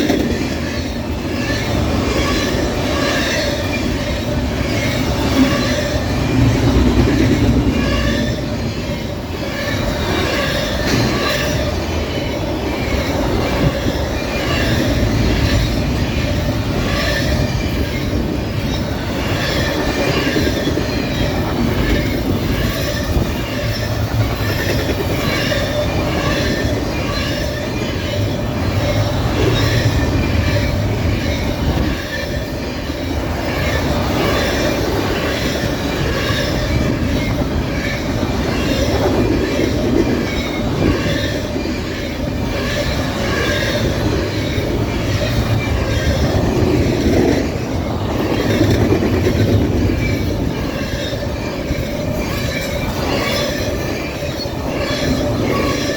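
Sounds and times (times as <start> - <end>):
train wheels rumbling and clacking: 0.0 - 55.9
high-pitched wheel squeals: 7.4 - 48.8, 49.4 - 55.9.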